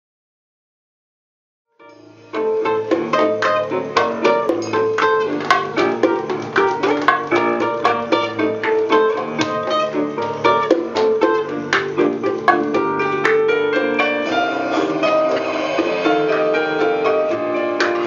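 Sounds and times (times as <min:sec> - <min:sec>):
acoustic guitar plucked notes: 0:01.9 - 0:18.0.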